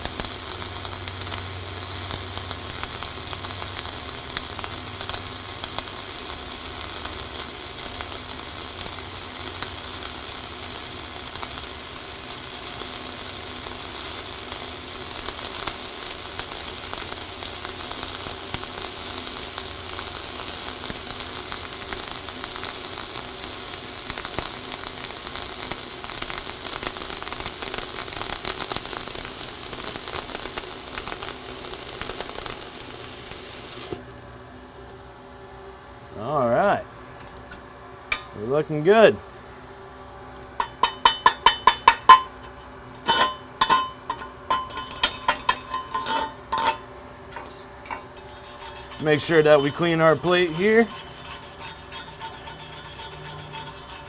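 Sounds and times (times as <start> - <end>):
welding arc crackling: 0.0 - 34.1, 43.0 - 54.0.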